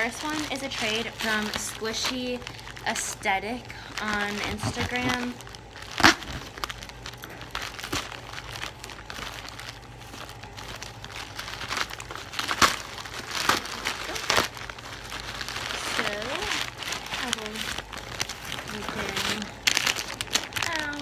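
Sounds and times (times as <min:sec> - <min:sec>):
plastic packaging crinkling: 0:00.0 - 0:21.0
sharp plastic crackles: 0:00.0 - 0:21.0.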